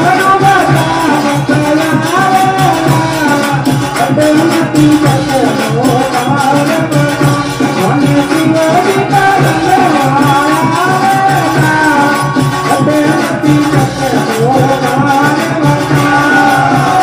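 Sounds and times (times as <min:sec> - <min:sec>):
devotional music: 0:00.0 - 0:17.0
steady drum beat: 0:00.0 - 0:17.0.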